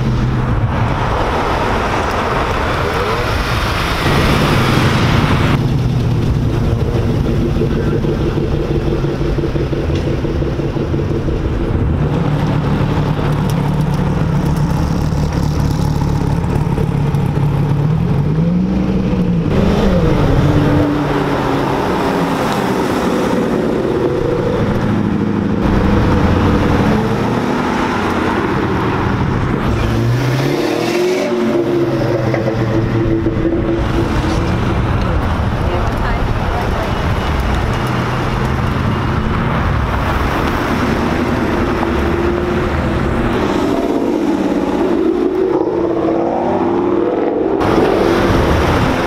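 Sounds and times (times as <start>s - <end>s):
performance car engines accelerating: 0.0s - 49.0s.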